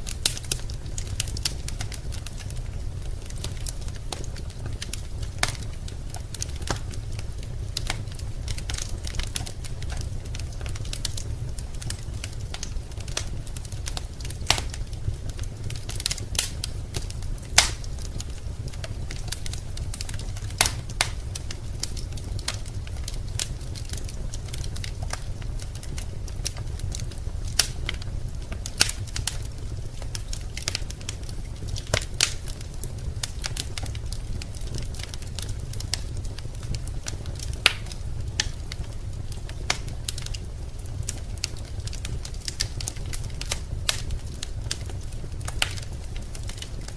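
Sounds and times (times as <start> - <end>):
low fire rumble: 0.0 - 46.9
wood fire crackling: 0.0 - 46.9.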